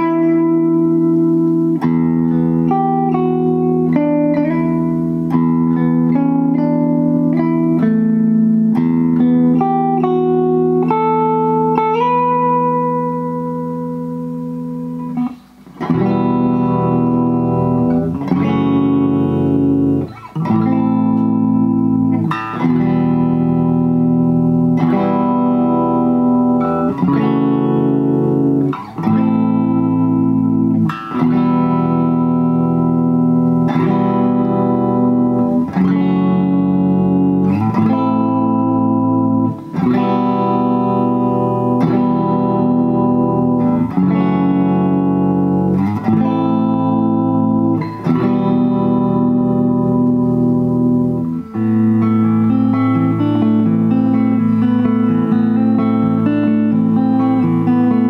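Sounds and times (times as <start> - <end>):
electric guitar chords: 0.0 - 58.0.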